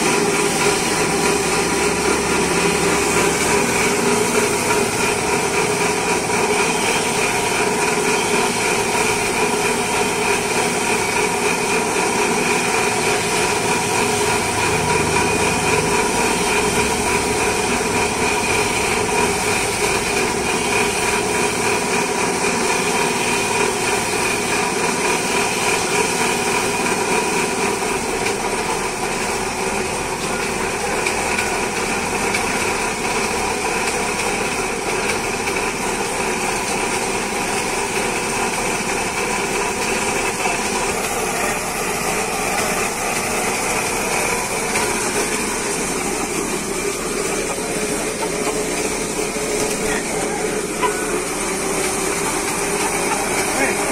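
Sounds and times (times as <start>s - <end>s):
steady machine drone: 0.0s - 53.9s.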